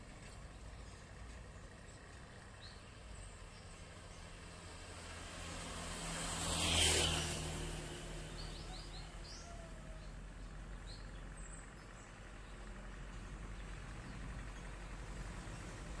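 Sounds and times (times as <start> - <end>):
distant propeller aircraft drone: 0.0 - 16.0.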